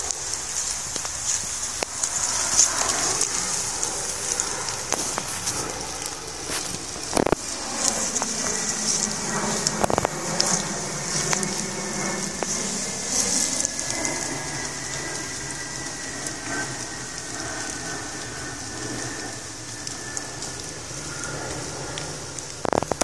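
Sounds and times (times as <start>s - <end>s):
rain pattering on leaves: 0.0s - 23.0s.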